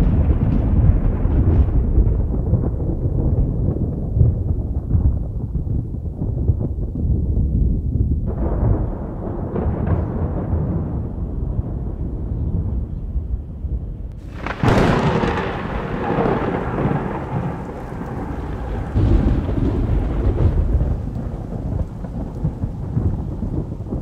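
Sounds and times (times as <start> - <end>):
sharp thunder crack: 0.0 - 24.0
thunder rumbling: 0.0 - 24.0.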